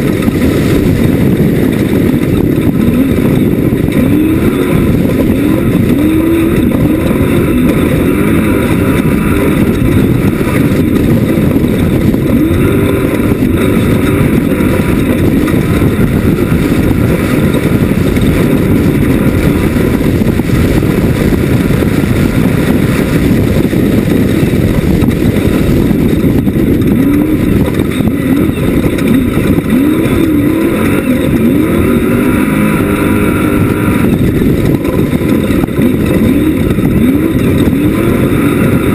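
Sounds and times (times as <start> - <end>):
drivetrain and terrain rumble: 0.0 - 38.9
race buggy engine revving: 0.0 - 38.9.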